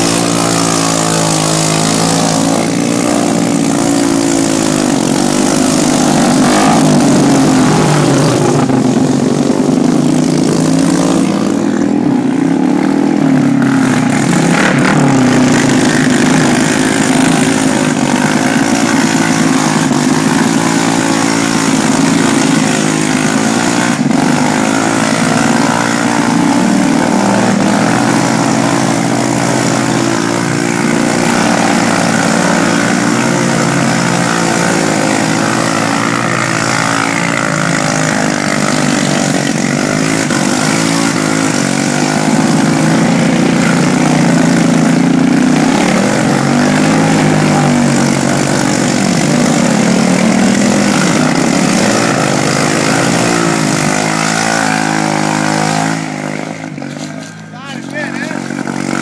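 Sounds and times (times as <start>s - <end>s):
three-wheeler engine revving: 0.0s - 59.0s.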